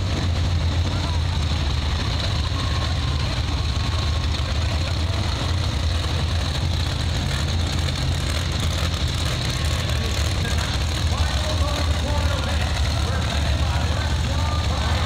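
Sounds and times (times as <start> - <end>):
truck engines droning: 0.0 - 15.0.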